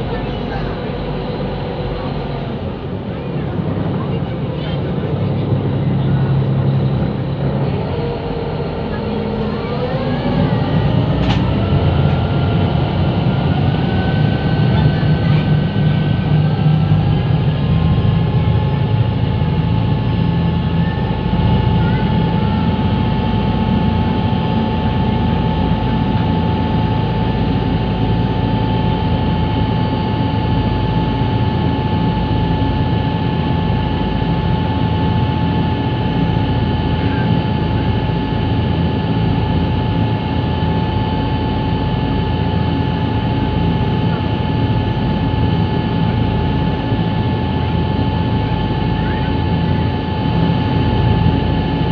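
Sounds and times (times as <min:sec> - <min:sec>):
ferry engine drone with whine: 0:00.0 - 0:51.9.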